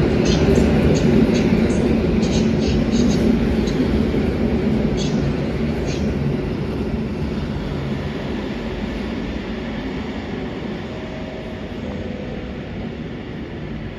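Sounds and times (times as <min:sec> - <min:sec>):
train wheels rumbling on track: 0:00.0 - 0:13.9.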